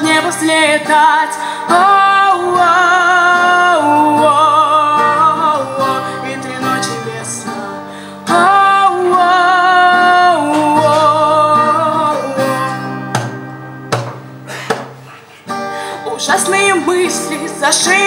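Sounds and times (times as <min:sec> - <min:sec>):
girl singing with vibrato: 0:00.0 - 0:13.2, 0:15.8 - 0:18.0
acoustic guitar strumming: 0:00.0 - 0:18.0.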